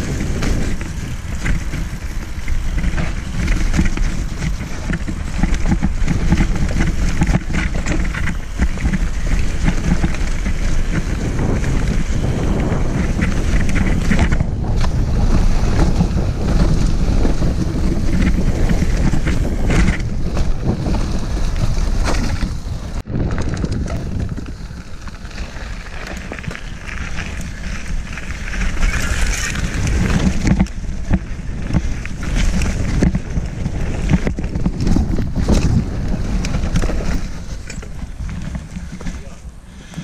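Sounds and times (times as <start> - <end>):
bike rattling: 0.0 - 40.0
tyres rumbling on dirt: 0.0 - 40.0
wind buffeting microphone: 0.0 - 40.0.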